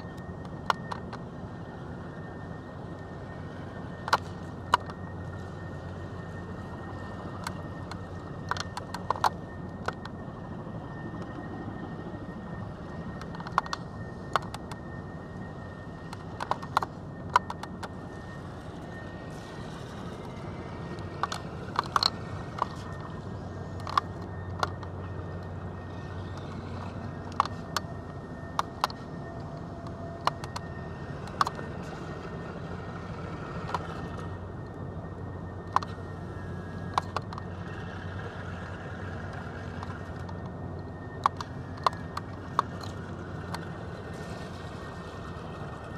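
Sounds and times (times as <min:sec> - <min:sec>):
low hum inside vehicle cab: 0:00.0 - 0:45.9.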